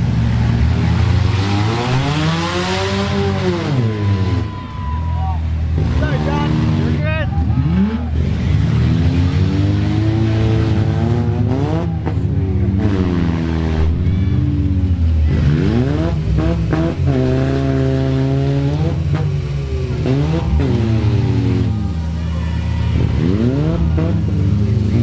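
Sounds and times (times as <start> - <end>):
car engine revving hard: 0.0 - 4.9, 5.6 - 25.0
other engines running: 0.0 - 25.0.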